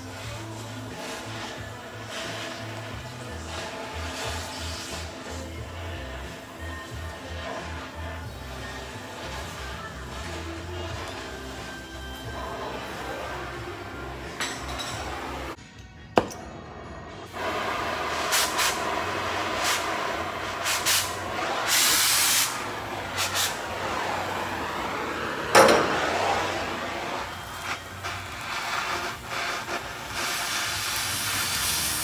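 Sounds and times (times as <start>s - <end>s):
cutting torch hissing: 0.0s - 15.6s, 17.3s - 32.0s.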